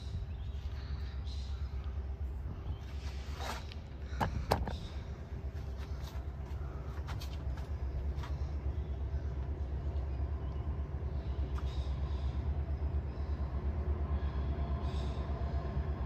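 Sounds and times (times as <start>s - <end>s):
low rumble of train locomotives: 0.0s - 16.0s.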